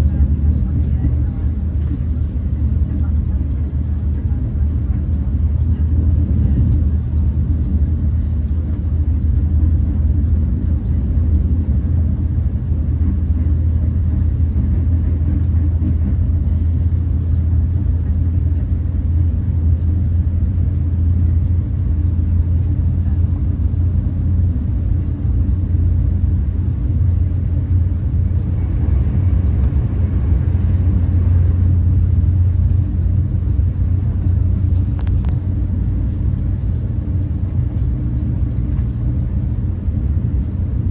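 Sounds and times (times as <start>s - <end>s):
train cabin low rumble: 0.0s - 40.9s.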